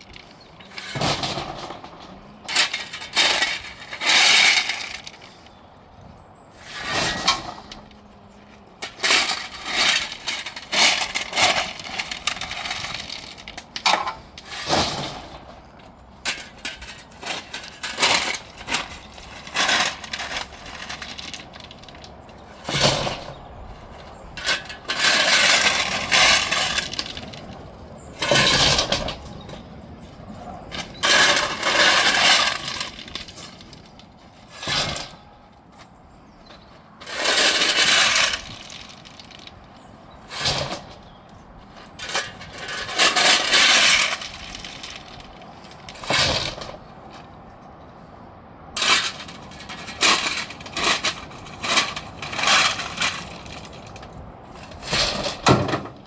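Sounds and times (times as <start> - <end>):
crunching and crackling bursts: 0.0 - 47.7, 48.8 - 56.0
steady background noise: 0.0 - 56.0.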